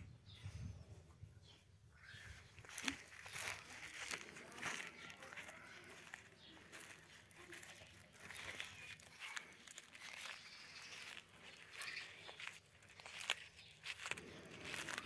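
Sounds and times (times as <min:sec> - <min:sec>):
tortoise crunching leaves: 0:02.6 - 0:15.0.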